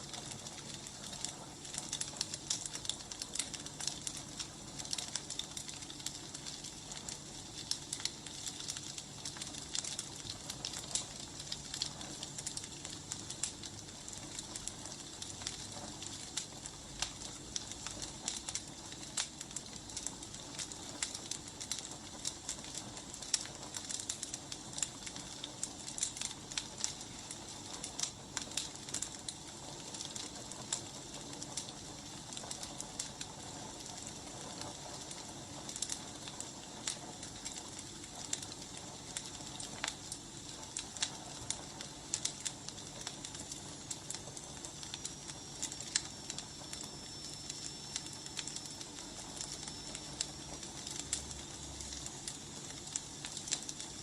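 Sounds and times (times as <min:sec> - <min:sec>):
wood fire crackling and hissing: 0:00.0 - 0:54.0.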